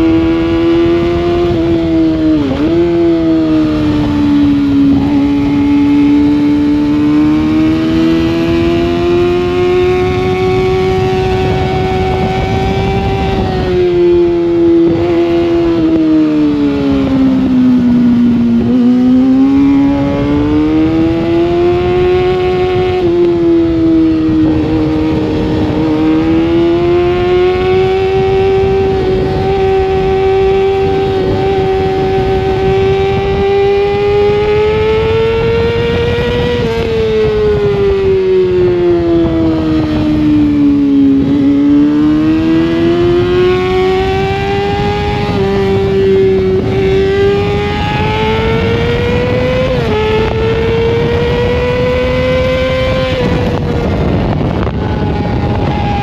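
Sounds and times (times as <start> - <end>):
motorcycle engine at high revs: 0.0 - 56.0
wind on microphone: 0.0 - 56.0.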